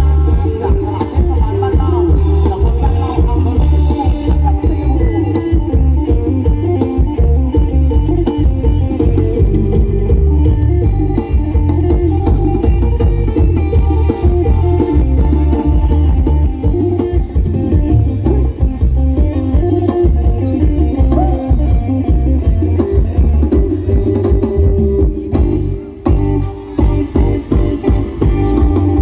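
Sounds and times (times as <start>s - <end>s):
amplified live band music: 0.0s - 29.0s.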